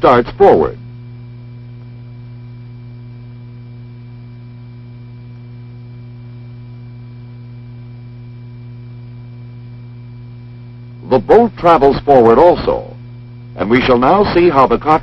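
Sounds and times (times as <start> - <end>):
low electrical hum with hiss: 0.0 - 15.0.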